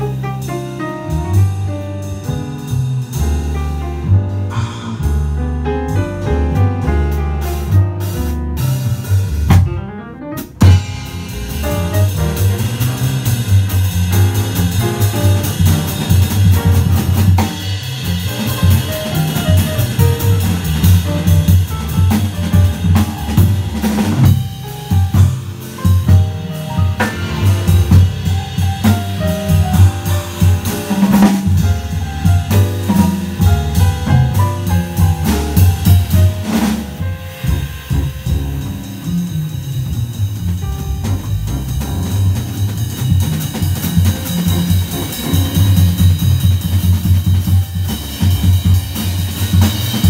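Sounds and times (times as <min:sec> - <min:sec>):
acoustic grand piano: 0:00.0 - 0:50.0
drum kit cymbals and snare: 0:00.0 - 0:50.0
upright double bass: 0:00.0 - 0:50.0.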